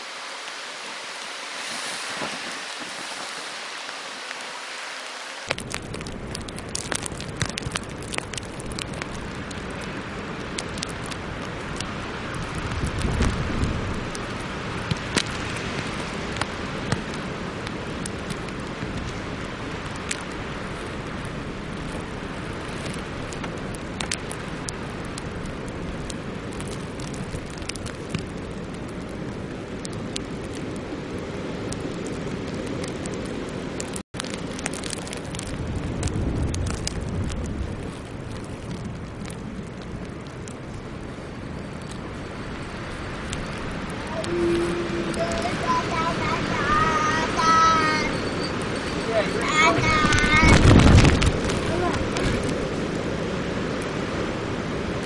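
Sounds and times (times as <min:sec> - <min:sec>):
storm wind blowing: 0:00.0 - 0:55.0.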